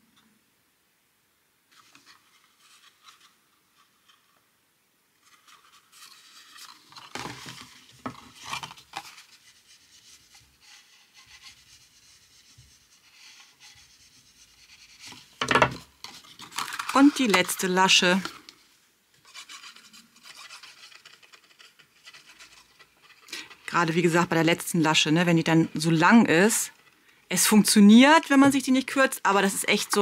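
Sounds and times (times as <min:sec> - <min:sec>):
cardstock rustling and rubbing: 0:01.7 - 0:04.4, 0:05.2 - 0:26.9.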